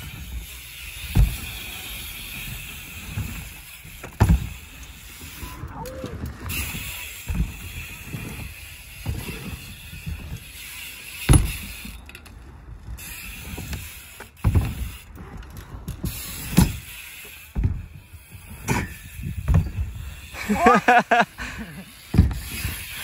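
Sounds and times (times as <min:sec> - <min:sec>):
bike landing on wooden ramps: 0:00.0 - 0:20.4, 0:21.9 - 0:23.0
bike rolling rumble: 0:00.0 - 0:23.0.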